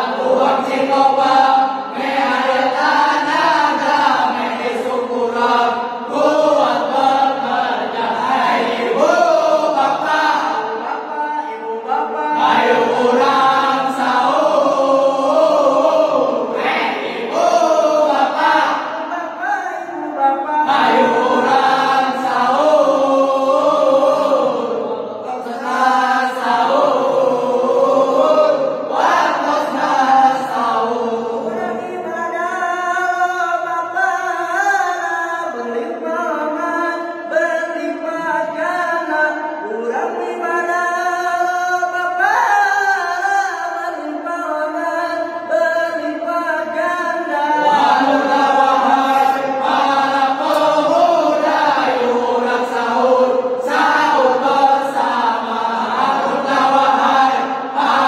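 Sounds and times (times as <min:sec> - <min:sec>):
group chanting and singing: 0:00.0 - 0:58.0.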